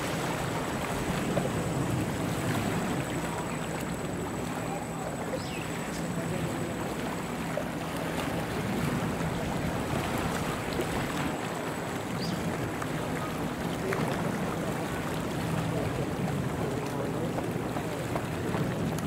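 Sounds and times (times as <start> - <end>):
water lapping against shore: 0.0 - 19.0
wind: 0.0 - 19.0.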